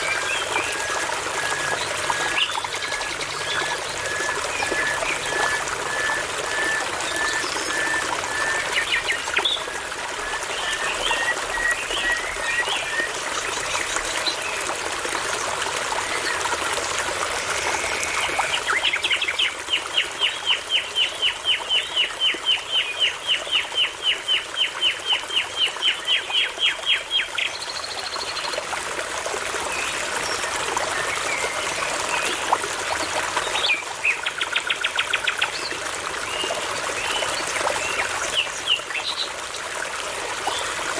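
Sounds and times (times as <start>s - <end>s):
babbling brook: 0.0s - 40.9s.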